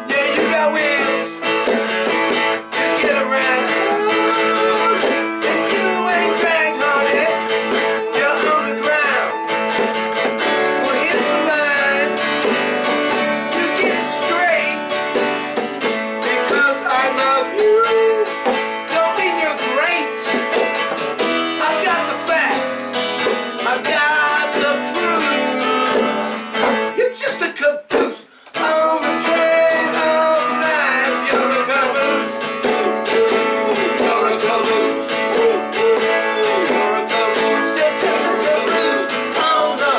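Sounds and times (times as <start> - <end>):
acoustic guitar strummed: 0.0 - 39.9
hand drum: 0.2 - 19.4, 20.2 - 26.9, 29.8 - 39.9.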